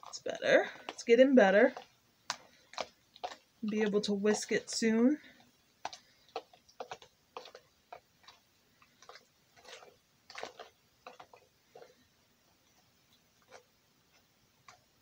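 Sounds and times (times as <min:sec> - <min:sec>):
fork scraping a plastic bowl: 0:00.0 - 0:12.0.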